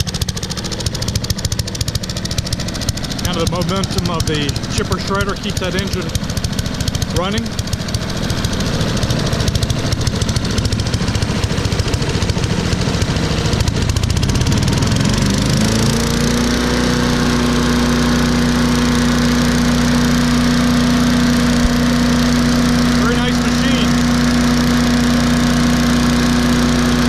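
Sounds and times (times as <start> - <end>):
small engine idling and revving: 0.0 - 27.0.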